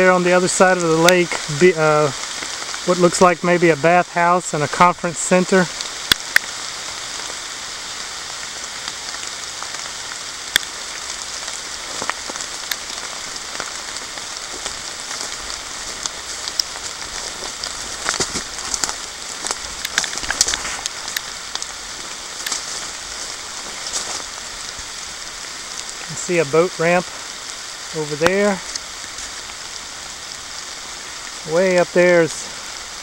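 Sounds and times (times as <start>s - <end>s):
rain falling on foliage and water: 0.0s - 33.0s
sharp close raindrop ticks: 0.2s - 33.0s.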